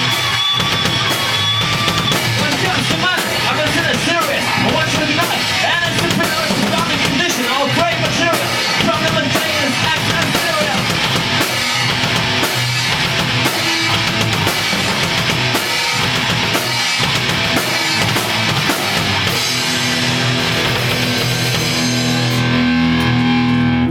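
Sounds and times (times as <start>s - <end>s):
distorted electric guitars: 0.0s - 23.9s
pounding drum kit: 0.0s - 23.9s.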